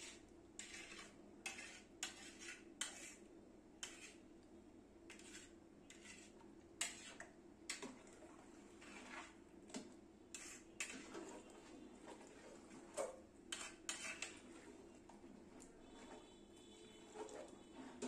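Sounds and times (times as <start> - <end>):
metal ladle scraping a pot: 0.0 - 4.2, 5.1 - 9.4, 10.3 - 18.0.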